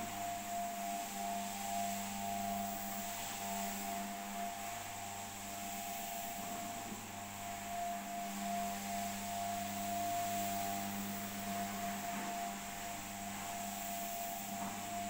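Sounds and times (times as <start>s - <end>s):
spinning pad hiss: 0.0s - 15.0s.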